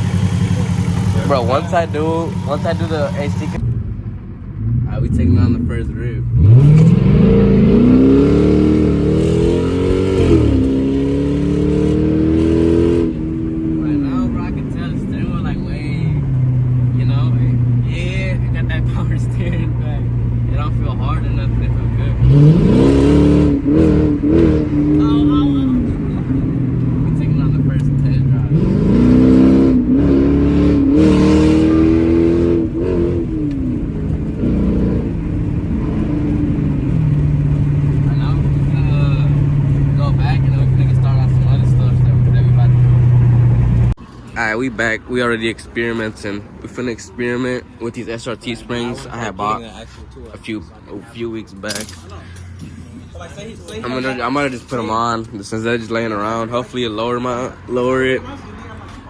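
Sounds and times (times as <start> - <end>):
car engine accelerating: 0.0 - 49.3.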